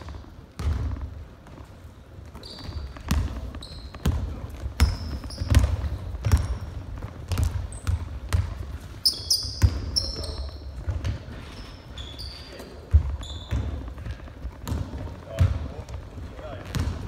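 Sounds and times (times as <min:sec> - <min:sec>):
basketball dribbling on wooden floor: 0:00.0 - 0:11.4, 0:12.9 - 0:17.0
sneaker squeaks: 0:00.0 - 0:17.0.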